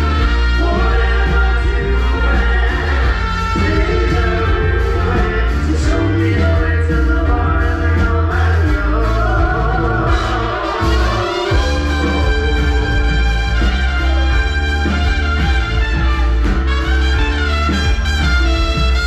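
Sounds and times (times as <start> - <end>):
live band playing latin music: 0.0 - 19.0.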